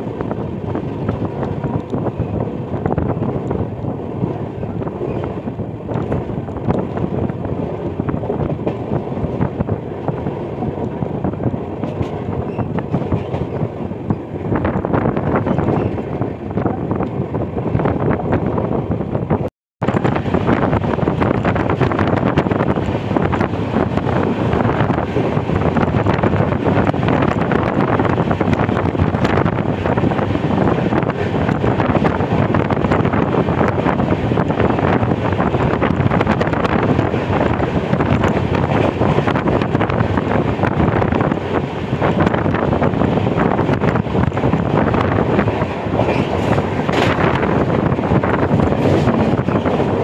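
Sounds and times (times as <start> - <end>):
moving train running noise: 0.0 - 50.0
wind buffeting microphone: 0.0 - 50.0.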